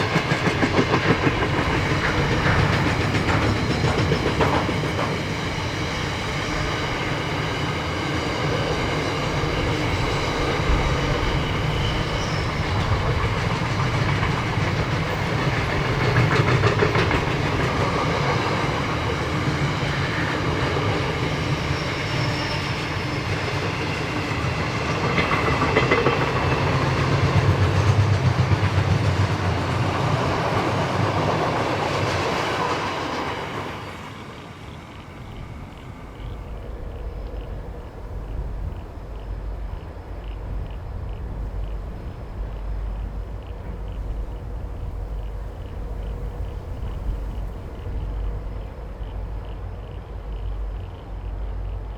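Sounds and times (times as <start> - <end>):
train rumble: 0.0 - 51.9
train wheels clattering: 0.0 - 51.9.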